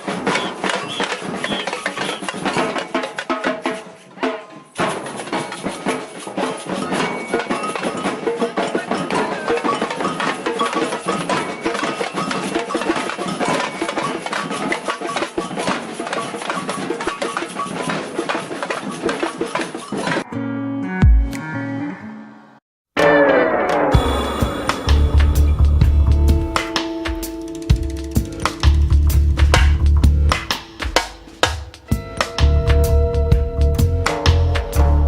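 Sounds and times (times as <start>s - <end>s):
wooden percussion: 0.0s - 20.2s, 23.7s - 35.0s.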